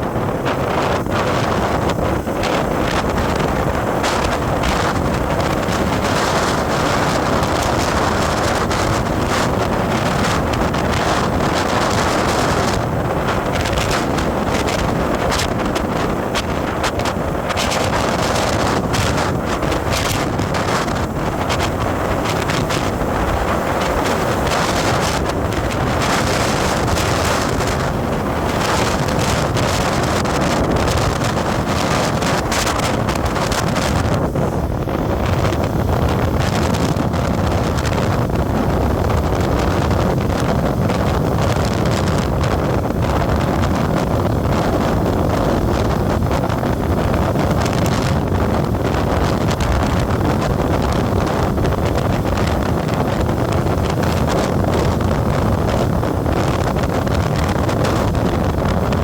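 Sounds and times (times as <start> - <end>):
road and vehicle noise: 0.0 - 59.0
wind buffeting microphone: 0.0 - 59.0.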